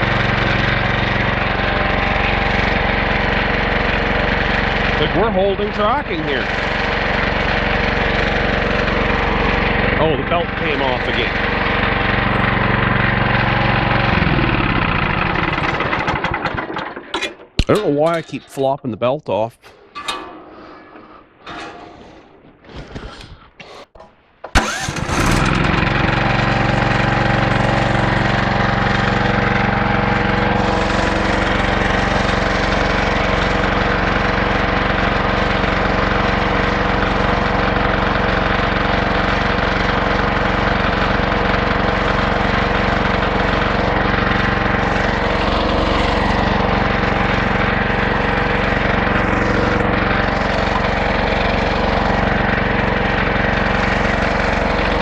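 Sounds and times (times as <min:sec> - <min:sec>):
small gas engine running: 0:00.0 - 0:18.3, 0:24.5 - 0:55.0.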